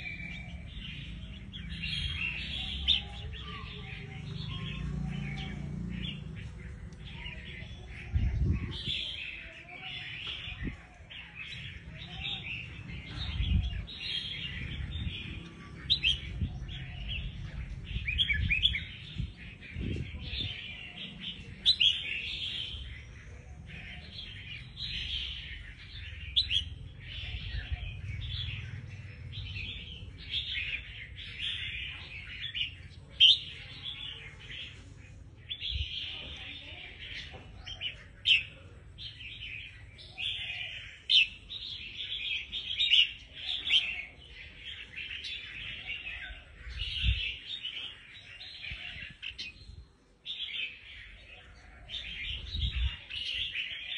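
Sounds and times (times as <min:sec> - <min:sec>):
bird singing and chattering: 0:00.0 - 0:53.9.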